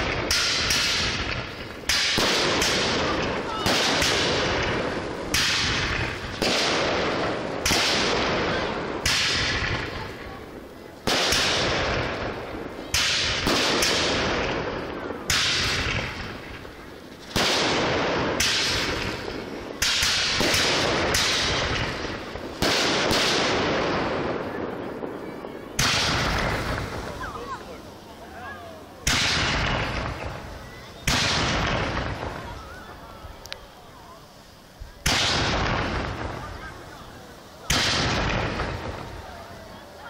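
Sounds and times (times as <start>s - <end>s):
fireworks bangs: 0.0s - 40.0s.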